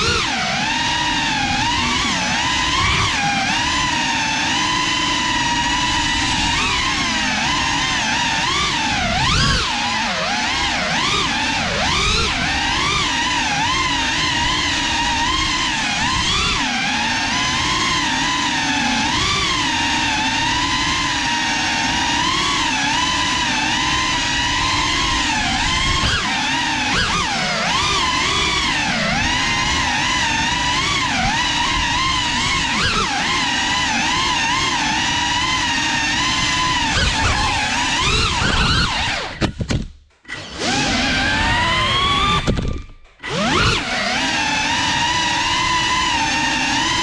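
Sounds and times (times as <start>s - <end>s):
drone motors and propellers whining: 0.0s - 47.0s.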